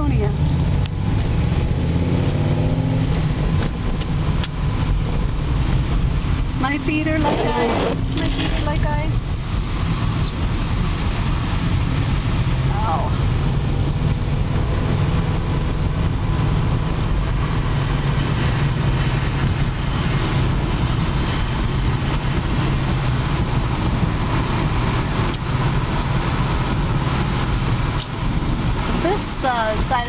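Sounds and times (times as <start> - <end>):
car cabin road noise: 0.0 - 30.0.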